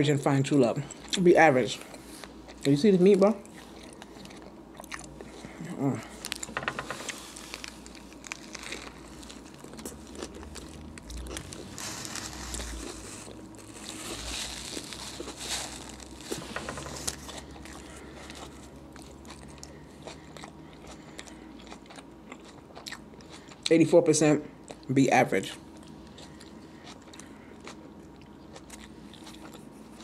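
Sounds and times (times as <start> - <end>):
person chewing a sandwich: 0.7 - 1.2, 1.8 - 23.7, 24.5 - 24.9, 25.5 - 30.0.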